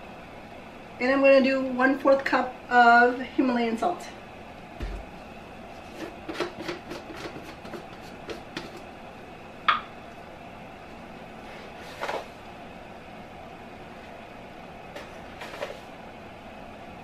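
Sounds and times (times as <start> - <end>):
steady low background hum: 0.0 - 17.0.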